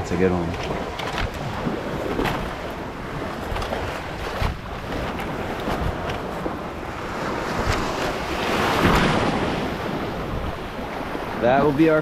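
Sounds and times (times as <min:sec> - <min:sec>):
surf washing on shore: 0:00.0 - 0:12.0
wind buffeting microphone: 0:00.0 - 0:12.0.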